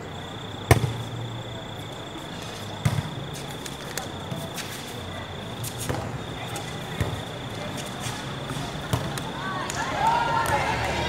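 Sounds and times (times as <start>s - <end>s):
low court murmur: 0.0s - 11.0s.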